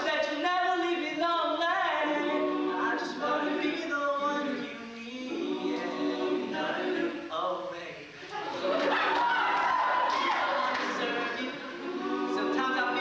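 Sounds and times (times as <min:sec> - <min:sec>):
male a cappella group singing: 0:00.0 - 0:13.0.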